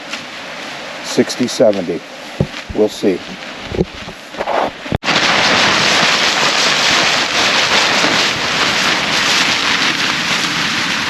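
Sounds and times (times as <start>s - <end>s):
rain and wind on a tarp: 1.7s - 11.0s.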